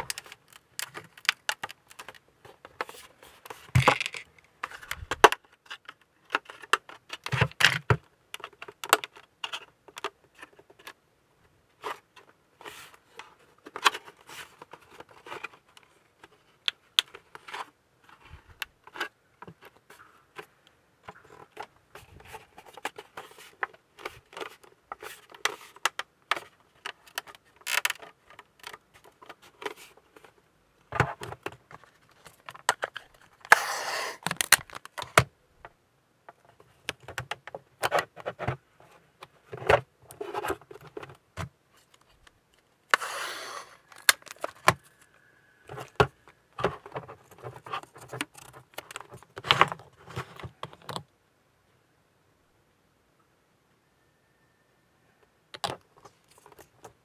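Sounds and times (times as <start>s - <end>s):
plastic parts clicking and scraping: 0.0s - 11.0s, 11.7s - 35.3s, 36.3s - 51.1s, 55.5s - 57.0s.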